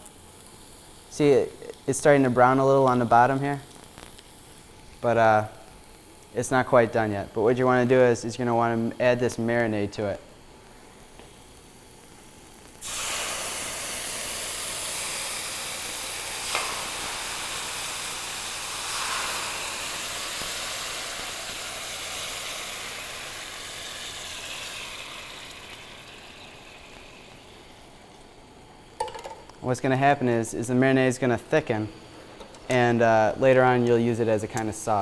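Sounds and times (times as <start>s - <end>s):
marinade sizzling in hot pan: 0.0s - 35.0s.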